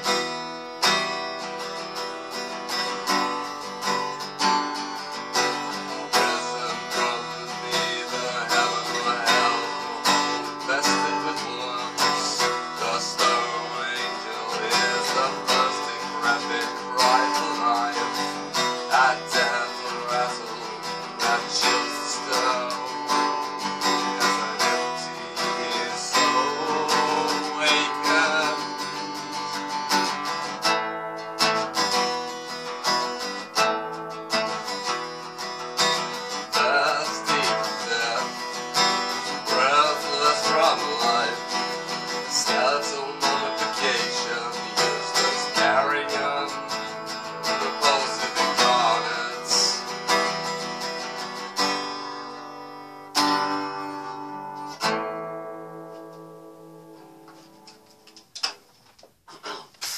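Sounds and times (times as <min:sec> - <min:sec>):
acoustic guitar strummed and picked: 0:00.0 - 0:59.9.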